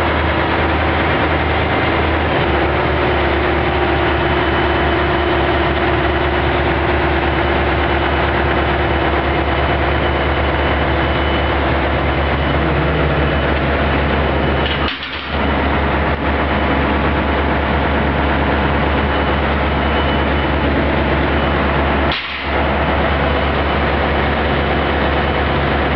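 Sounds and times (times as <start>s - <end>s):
machinery noise: 0.0s - 25.9s
pump engine humming: 0.0s - 25.9s.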